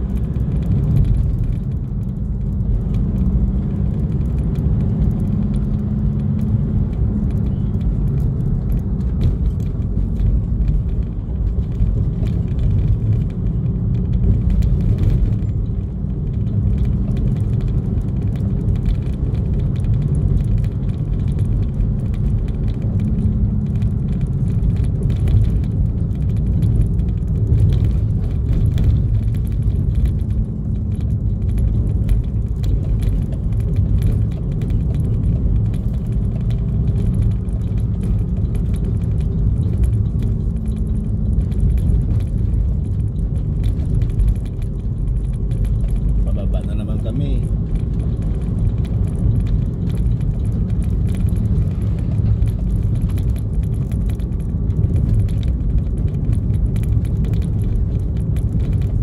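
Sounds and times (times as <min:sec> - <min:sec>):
road noise: 0:00.0 - 0:59.0
vehicle engine rumble: 0:00.0 - 0:59.0.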